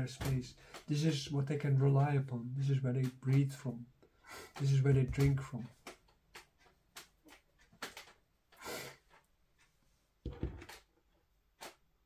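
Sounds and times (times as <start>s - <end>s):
faint clicks and taps: 0.0s - 11.9s.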